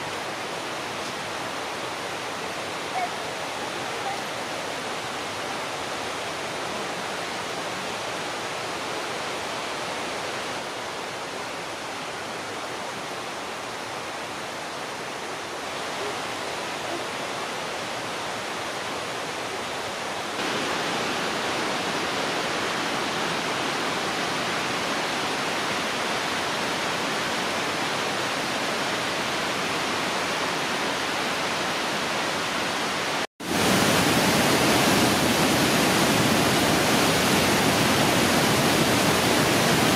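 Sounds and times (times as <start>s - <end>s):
rushing rapids: 0.0s - 39.9s.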